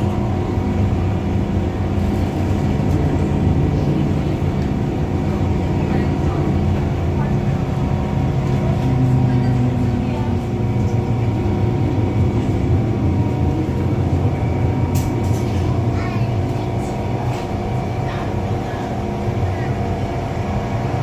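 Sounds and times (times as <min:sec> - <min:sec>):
train equipment humming: 0:00.0 - 0:21.0
train rumbling: 0:00.0 - 0:21.0.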